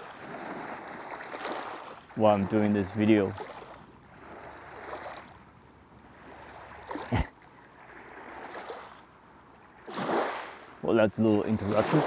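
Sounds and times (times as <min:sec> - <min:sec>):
waves lapping on gravel shore: 0:00.0 - 0:05.4, 0:06.1 - 0:07.1, 0:07.8 - 0:09.0, 0:09.8 - 0:12.0.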